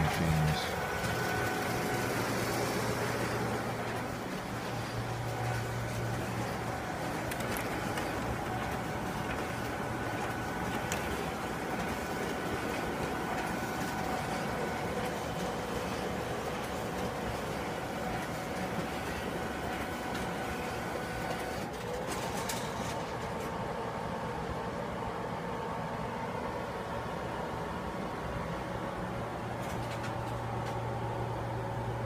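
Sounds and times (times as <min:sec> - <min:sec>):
printers whirring: 0:00.0 - 0:32.0.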